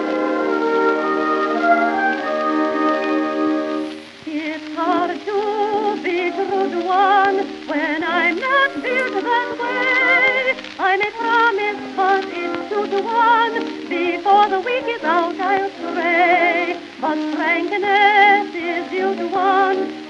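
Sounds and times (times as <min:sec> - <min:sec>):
soft accompaniment: 0:00.0 - 0:20.0
person singing with heavy vibrato: 0:01.7 - 0:20.0.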